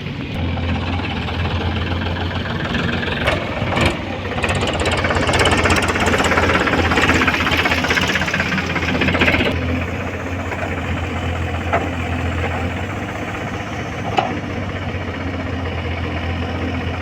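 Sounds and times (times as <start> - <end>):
diesel engine running: 0.0 - 17.0
rapid engine clatter: 0.0 - 17.0.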